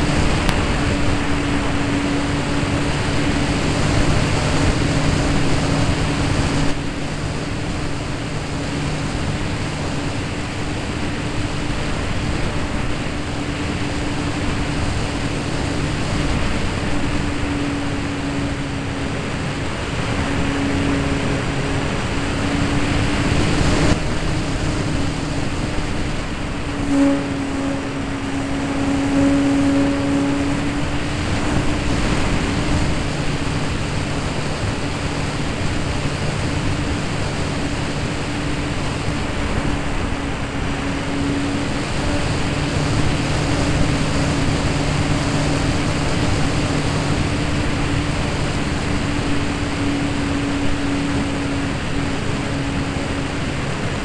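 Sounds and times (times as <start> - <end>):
airflow rushing over microphone: 0.0 - 54.0
electric motor and propeller humming: 0.0 - 54.0.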